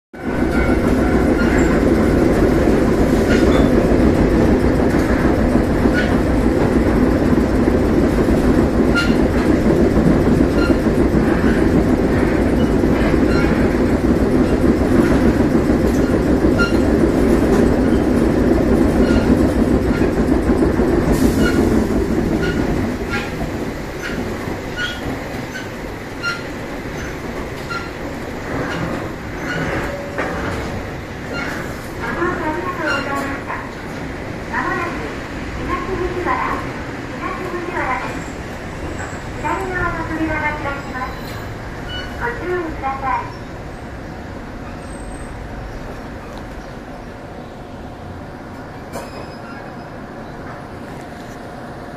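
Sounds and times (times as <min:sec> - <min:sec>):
train wheels rumbling on rails: 0:00.2 - 0:51.9.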